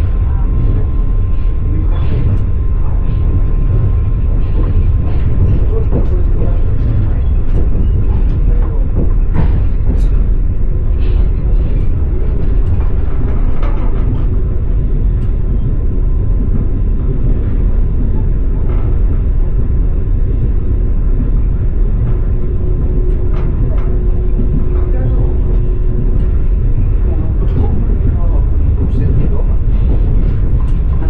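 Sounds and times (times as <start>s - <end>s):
faint steady hum: 0.0s - 31.0s
train wheels rumbling on track: 0.0s - 31.0s.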